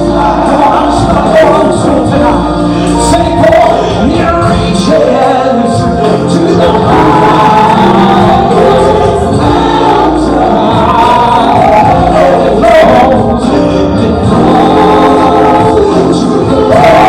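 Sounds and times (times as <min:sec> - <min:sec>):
band accompaniment: 0:00.0 - 0:17.0
gospel choir singing: 0:00.0 - 0:17.0
heavy bass line: 0:00.0 - 0:17.0.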